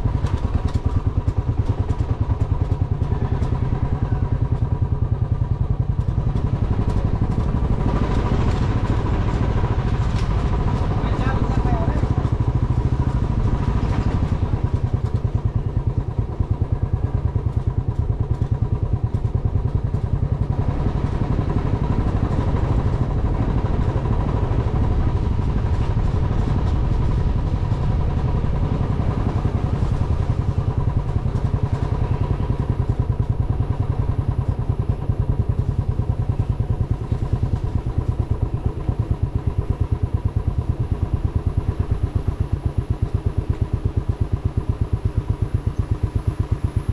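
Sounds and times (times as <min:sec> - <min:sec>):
vehicle engine throbbing: 0:00.0 - 0:46.9.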